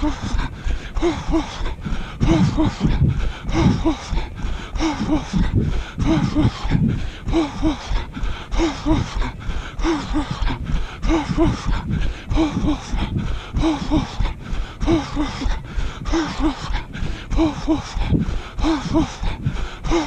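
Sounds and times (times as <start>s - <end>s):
runner panting: 0.0s - 20.0s
wind rumble on microphone: 1.2s - 7.4s, 8.0s - 19.6s.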